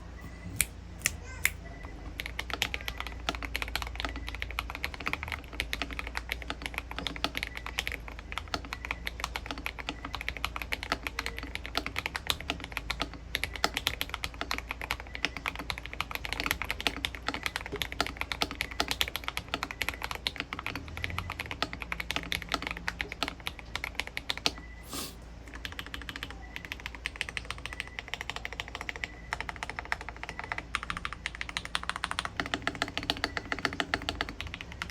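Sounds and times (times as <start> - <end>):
mechanical keyboard typing: 1.8 - 24.8, 25.5 - 34.9.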